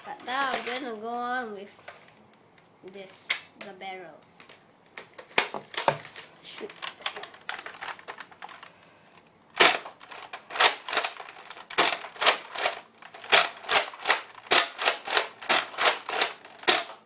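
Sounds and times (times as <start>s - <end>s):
toy blaster plastic clacks: 0.2s - 1.0s, 2.9s - 8.7s, 9.6s - 17.0s.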